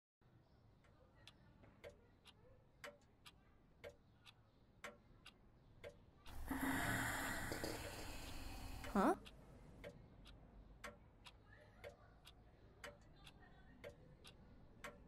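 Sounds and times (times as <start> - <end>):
mechanical clock ticking: 0.8 - 15.0.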